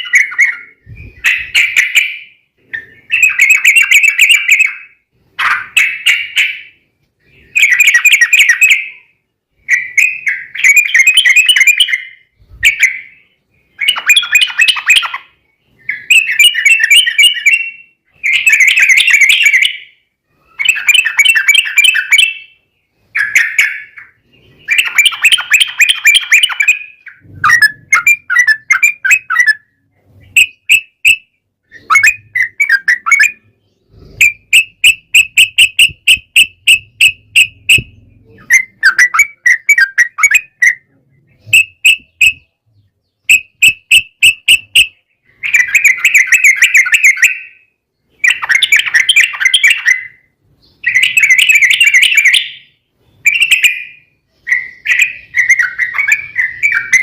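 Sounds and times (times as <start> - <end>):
bulbul song: 0.0 - 57.0.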